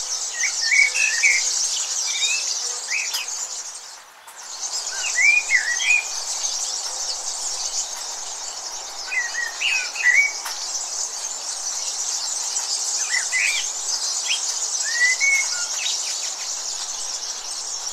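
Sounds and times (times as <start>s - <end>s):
bird chirps: 0.0s - 17.9s
high-pitched insect chorus: 0.0s - 17.9s.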